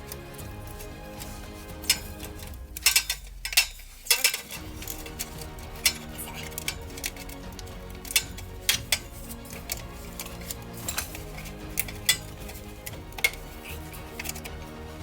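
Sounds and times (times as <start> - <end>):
background music: 0.0 - 15.0
metal tools clinking: 0.0 - 15.0.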